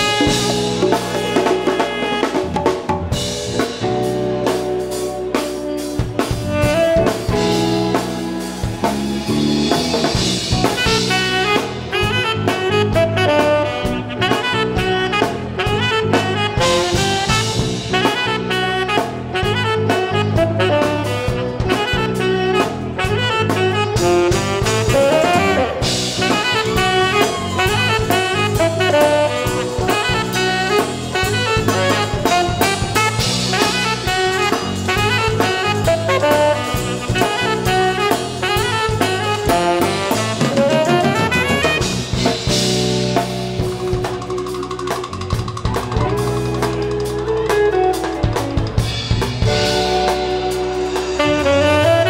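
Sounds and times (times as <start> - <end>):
tenor saxophone: 0.0 - 45.4, 46.0 - 52.0
bass: 0.0 - 52.0
drum kit: 0.0 - 52.0
electric guitar: 0.0 - 52.0.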